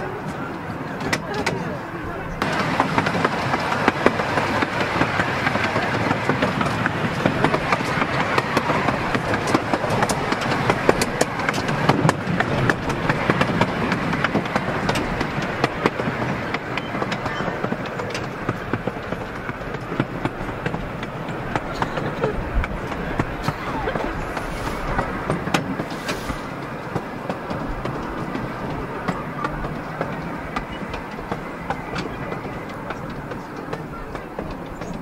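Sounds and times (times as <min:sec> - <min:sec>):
miniature train rolling rumble: 0:00.0 - 0:35.0
wheels clicking over rail joints: 0:00.0 - 0:35.0.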